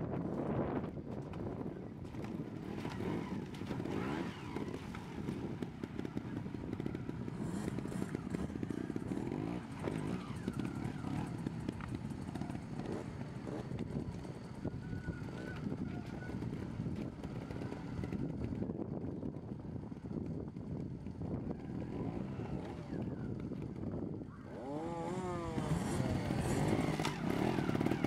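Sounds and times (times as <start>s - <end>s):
motorcycle engine revving: 1.4s - 28.0s.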